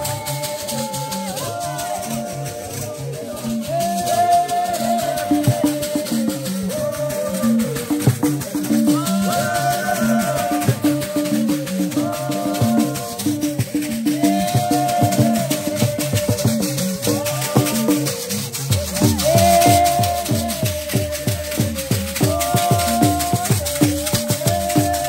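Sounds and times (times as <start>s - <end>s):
metal hand rattles shaken: 0.0s - 25.0s
voices singing: 0.0s - 25.0s.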